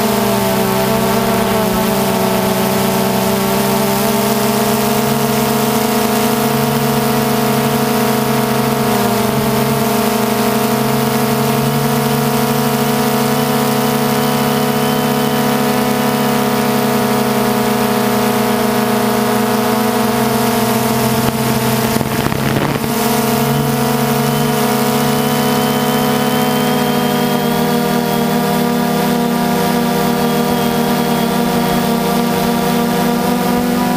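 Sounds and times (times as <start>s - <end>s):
drone motors humming: 0.0s - 33.9s.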